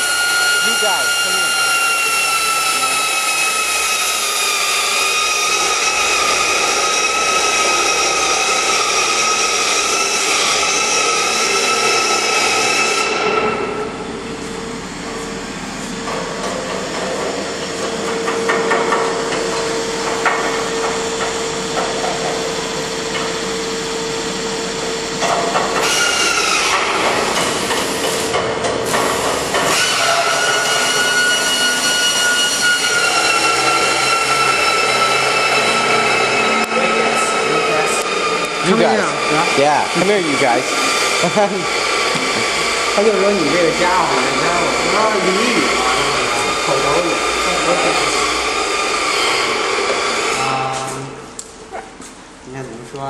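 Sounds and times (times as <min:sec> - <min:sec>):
high-pitched machine whine: 0:00.0 - 0:51.4
low machine hum: 0:00.0 - 0:53.0.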